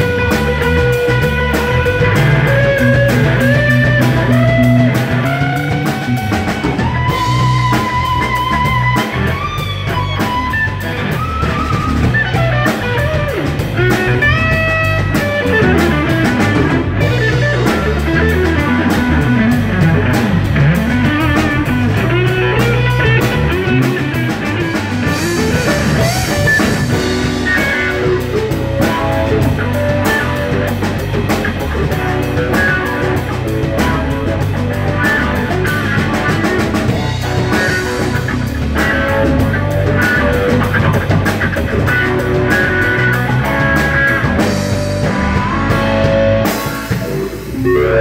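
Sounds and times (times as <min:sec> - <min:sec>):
bass guitar: 0:00.0 - 0:48.0
drum kit: 0:00.0 - 0:48.0
electric guitar lead notes: 0:00.0 - 0:48.0.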